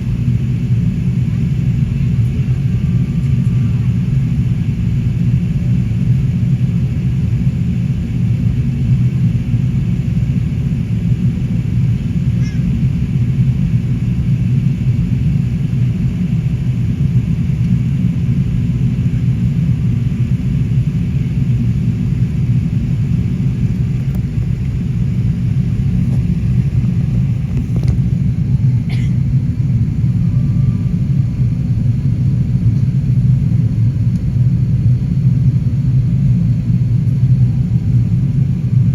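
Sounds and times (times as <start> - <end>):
airliner engines rumbling: 0.0 - 38.9.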